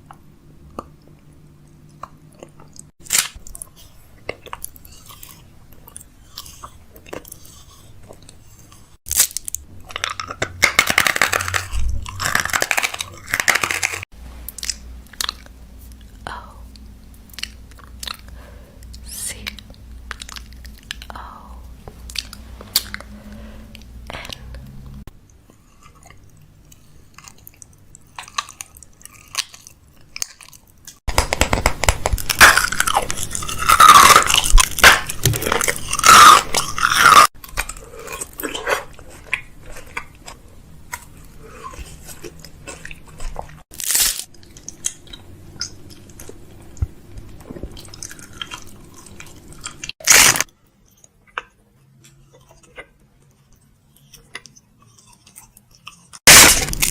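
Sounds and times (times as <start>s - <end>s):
crunching and chewing snacks: 1.8s - 16.2s, 17.2s - 21.2s, 22.0s - 23.1s, 25.2s - 56.9s.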